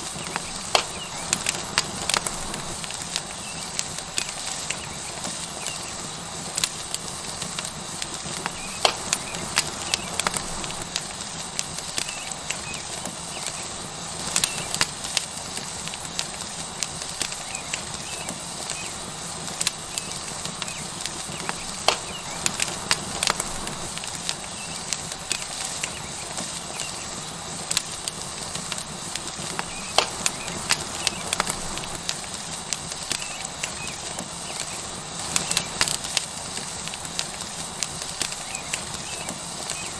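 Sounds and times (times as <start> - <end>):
fire crackling and popping: 0.0 - 39.9
steak sizzling on hot rock: 0.0 - 39.9.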